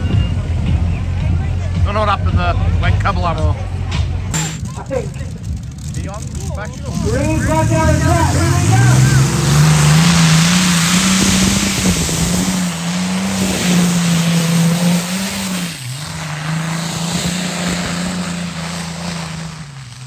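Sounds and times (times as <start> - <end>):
tractor engine high drone: 0.0 - 20.0.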